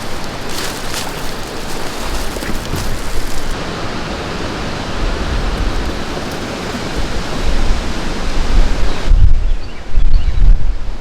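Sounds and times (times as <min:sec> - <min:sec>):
wind buffeting microphone: 0:00.0 - 0:11.0
wind through trees: 0:00.0 - 0:11.0.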